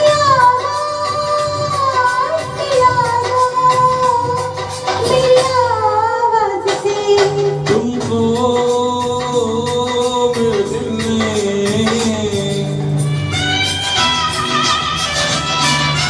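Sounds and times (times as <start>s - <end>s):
ornamented melody line: 0.0s - 16.0s
steady percussion beat: 0.0s - 16.0s.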